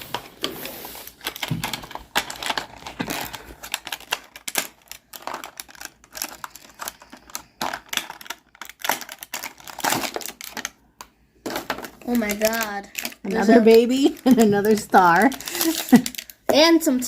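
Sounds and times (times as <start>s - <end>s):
trinkets and packaging clicking: 1.1s - 16.6s.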